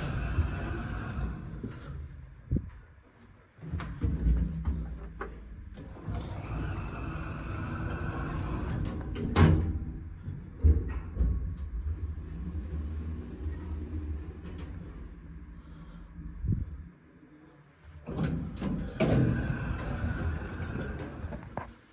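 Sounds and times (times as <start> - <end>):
door operator whirring: 0.0 - 2.6, 3.6 - 16.9, 17.8 - 21.9
lift doors sliding: 0.0 - 17.1, 17.8 - 21.9
low rumble from lift car: 0.0 - 17.2, 17.8 - 21.9.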